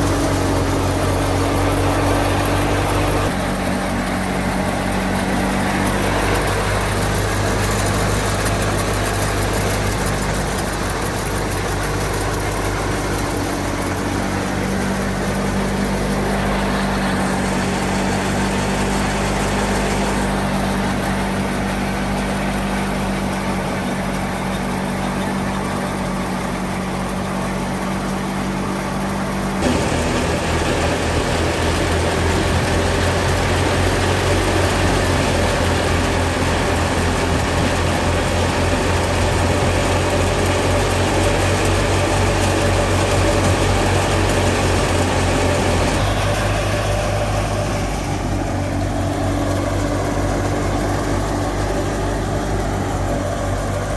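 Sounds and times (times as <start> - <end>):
thresher drum rushing noise: 0.0 - 53.9
tractor diesel engine running: 0.0 - 53.9.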